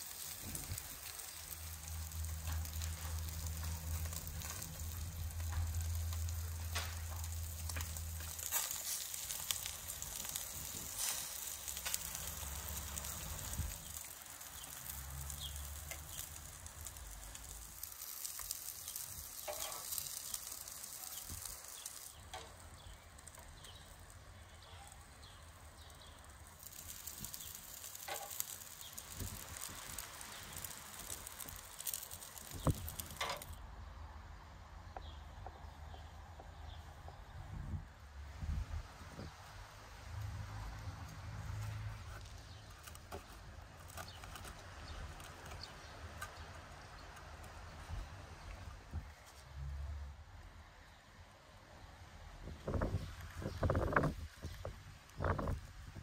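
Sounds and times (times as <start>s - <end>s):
meat sizzling over a wood fire: 0.0s - 33.6s, 35.0s - 49.9s, 52.0s - 56.0s
fire crackles: 0.0s - 56.0s.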